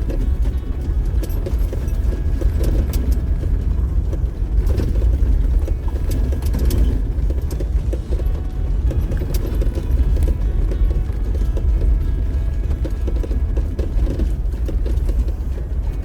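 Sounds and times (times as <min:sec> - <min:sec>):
off-road vehicle rumbling: 0:00.0 - 0:16.0
vehicle clunks and rattles: 0:00.0 - 0:16.0.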